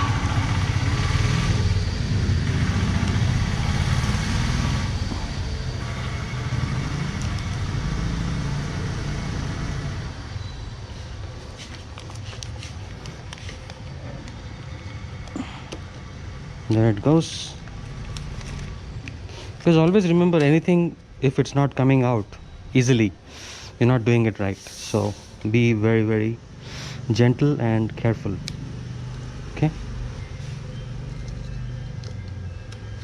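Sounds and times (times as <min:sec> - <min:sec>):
engine rumbling: 0:00.0 - 0:33.0.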